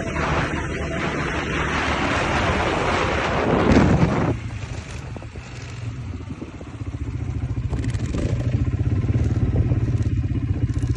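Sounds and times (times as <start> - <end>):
wind noise rush: 0.0 - 10.8
motorcycle engine low pulsing: 0.0 - 10.9.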